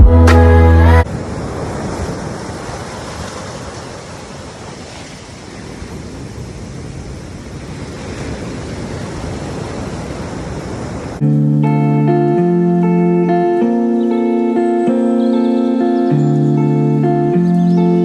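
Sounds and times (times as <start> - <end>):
ocean surf washing in: 0.2 - 14.9.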